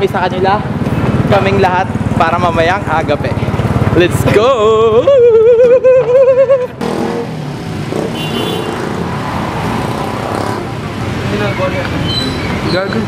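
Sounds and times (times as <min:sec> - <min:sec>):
city street traffic: 0:00.0 - 0:13.0
motorcycles running: 0:00.0 - 0:13.0.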